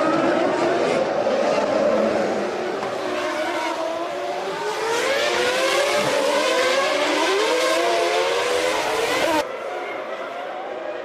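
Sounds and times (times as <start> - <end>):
racing car engines revving: 0.0 - 10.4.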